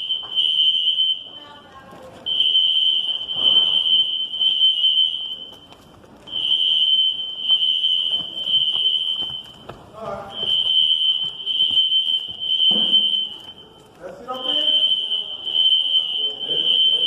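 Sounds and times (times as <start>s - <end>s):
fire alarm high tone: 0.0s - 17.0s.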